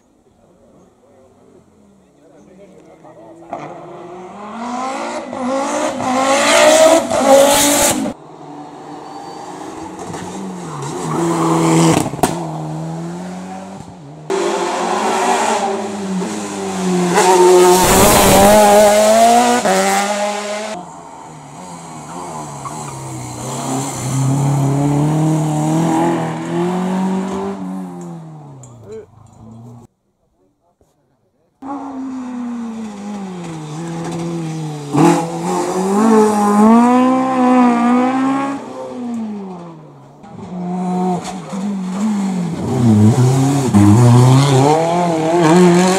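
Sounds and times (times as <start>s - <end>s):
racing car engines revving: 1.5s - 29.9s, 31.6s - 45.9s.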